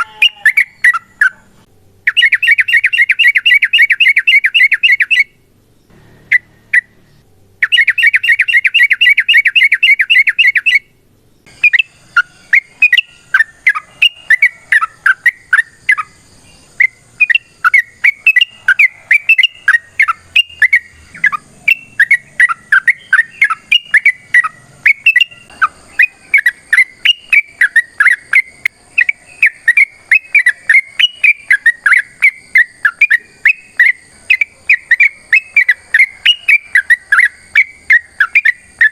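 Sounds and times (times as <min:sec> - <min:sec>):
bulbul singing rapid chirps: 0:00.0 - 0:38.9.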